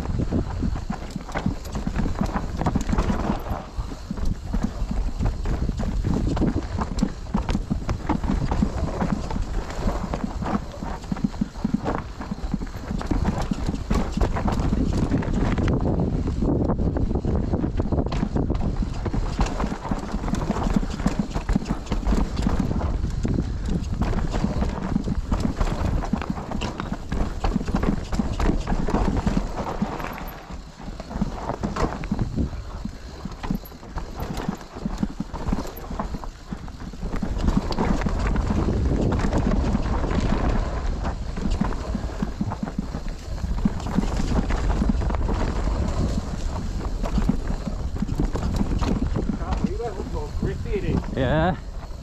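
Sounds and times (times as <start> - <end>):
wind rumble on microphone: 0.0 - 52.0.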